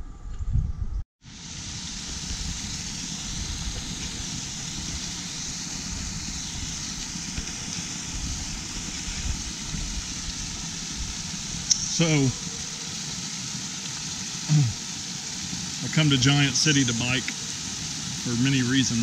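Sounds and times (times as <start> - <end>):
small waterfall pouring: 1.2 - 19.0.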